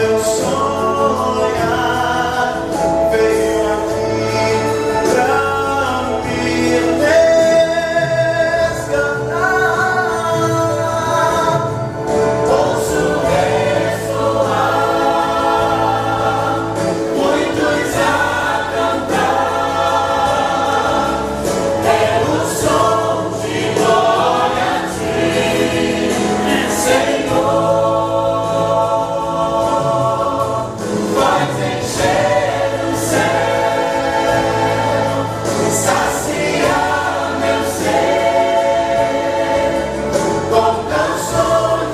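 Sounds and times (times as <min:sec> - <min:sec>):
choir singing gospel: 0:00.0 - 0:41.9
instrumental accompaniment with bass: 0:00.0 - 0:41.9.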